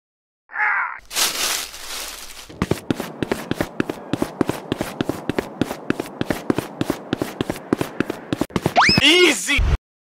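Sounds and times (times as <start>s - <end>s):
quick footsteps: 1.0s - 9.3s.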